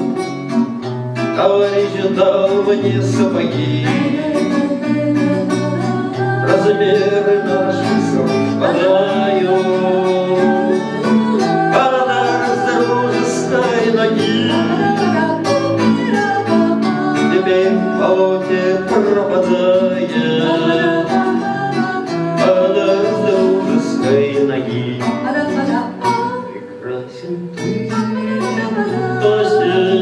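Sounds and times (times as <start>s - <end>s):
acoustic guitar chords: 0.0s - 30.0s
person singing: 1.2s - 30.0s.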